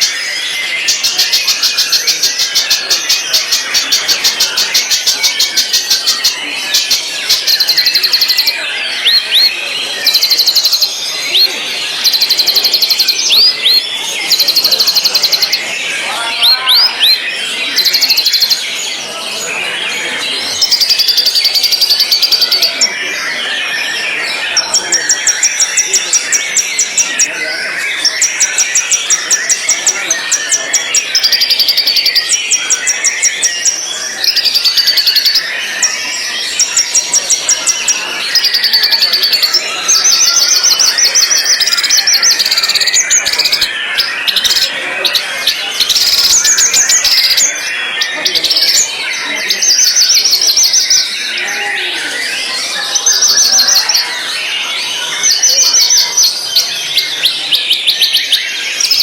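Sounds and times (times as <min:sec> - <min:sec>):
bird singing high trills: 0:00.0 - 0:59.0
lower bird chatter: 0:00.0 - 0:59.0.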